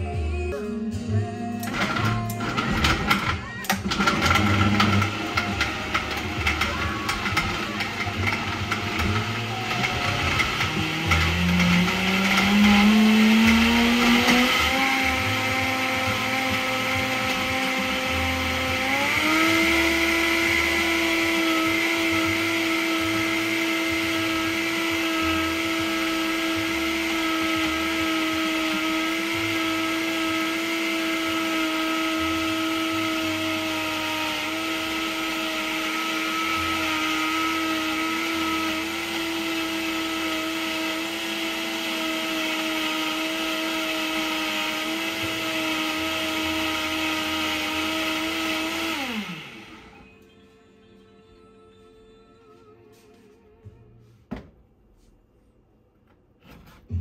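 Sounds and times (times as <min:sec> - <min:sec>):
blender motor whine: 0:01.6 - 0:50.3.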